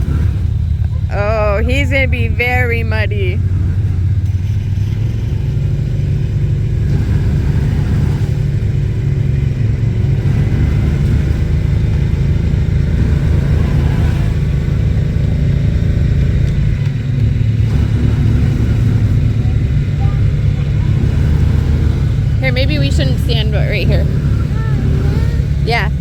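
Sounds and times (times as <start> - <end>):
atv engine rumbling: 0.0 - 26.0.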